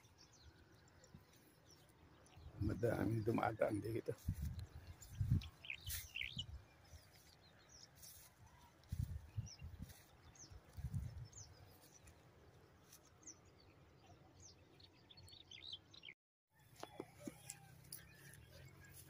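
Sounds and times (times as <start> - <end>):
small birds chirping: 0.0 - 16.2, 16.8 - 19.0.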